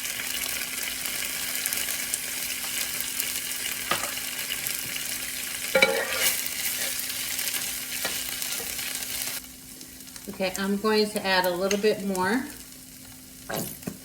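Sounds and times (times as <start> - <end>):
chicken sizzling on griddle: 0.0 - 14.0.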